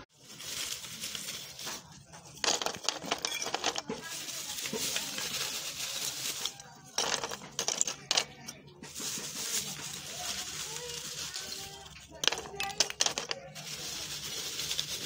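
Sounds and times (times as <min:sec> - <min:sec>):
charcoal clinking onto wood slats: 0:01.6 - 0:14.6.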